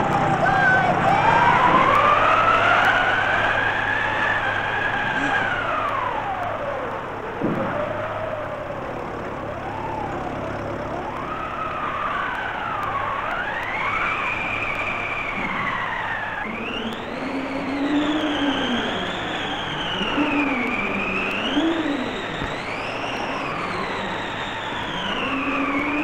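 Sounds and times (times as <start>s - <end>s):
howling whistling wind: 0.0s - 26.0s
low moaning wind tone: 0.0s - 26.0s.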